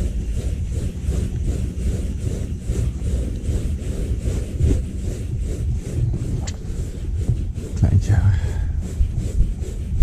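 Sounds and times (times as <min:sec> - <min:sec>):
wind rumble: 0:00.0 - 0:10.0.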